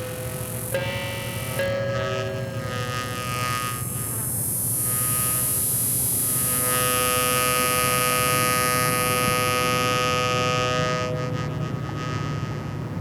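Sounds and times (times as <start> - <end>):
synthesizer buzzing drone: 0.0 - 13.0.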